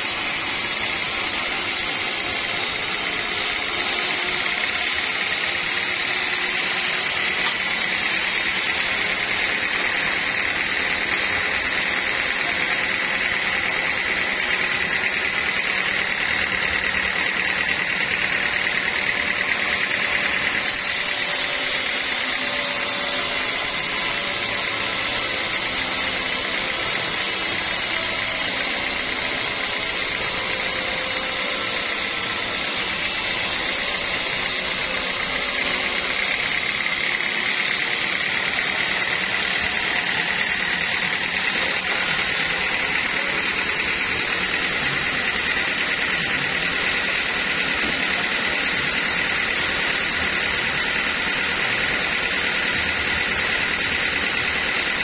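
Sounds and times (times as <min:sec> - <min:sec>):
band saw sawing a log: 0:00.0 - 0:55.0.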